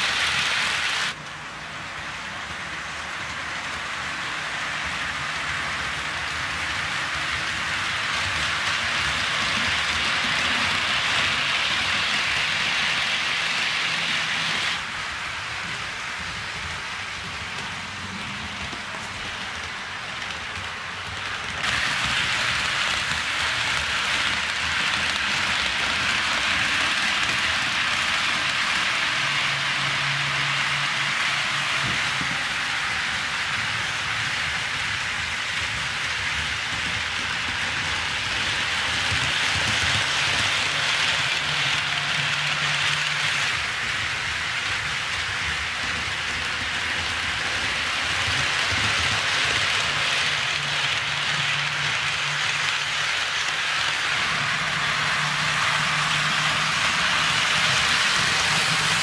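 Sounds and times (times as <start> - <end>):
model train wheels on rails: 0.0 - 59.0.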